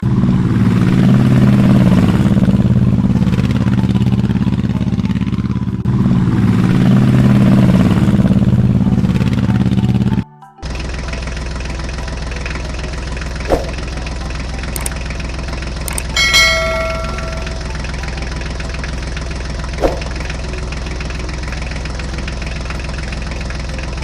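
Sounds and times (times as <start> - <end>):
engine running with rapid knocking: 0.0 - 24.0.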